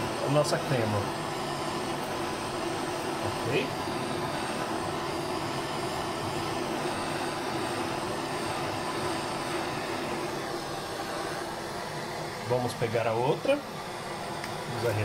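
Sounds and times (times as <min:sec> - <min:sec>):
blowtorch hissing: 0:00.0 - 0:15.0.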